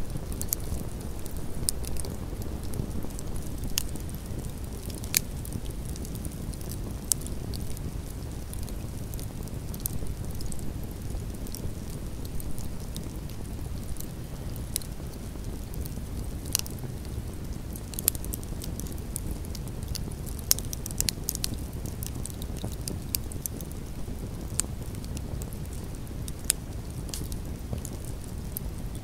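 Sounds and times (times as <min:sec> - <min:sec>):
campfire flames rushing: 0:00.0 - 0:29.0
fire crackling and popping: 0:00.0 - 0:29.0.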